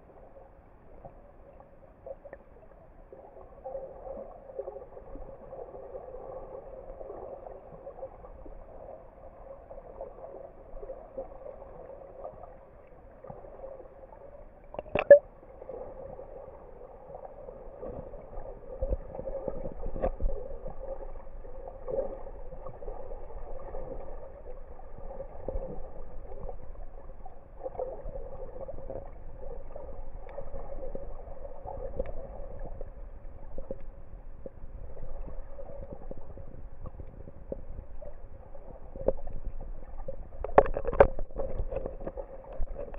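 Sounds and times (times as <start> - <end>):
muffled underwater water noise: 0.0 - 42.9.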